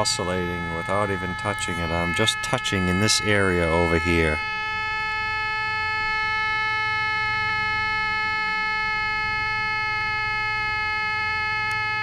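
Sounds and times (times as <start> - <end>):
radio oscillating howl: 0.0 - 12.0.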